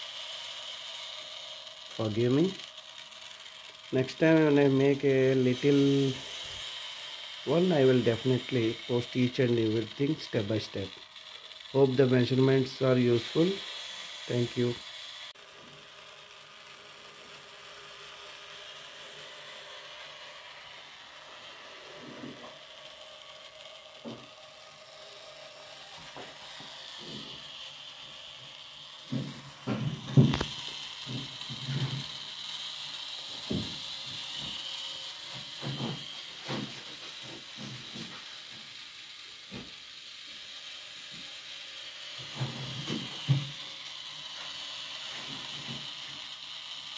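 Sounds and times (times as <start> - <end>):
gears clicking and knocking: 0.0 - 46.9
small motor whirring: 0.0 - 46.9.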